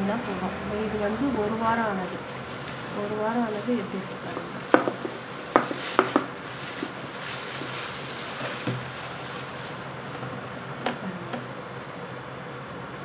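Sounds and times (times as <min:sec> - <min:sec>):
plastic cover crinkling: 0:00.0 - 0:10.5.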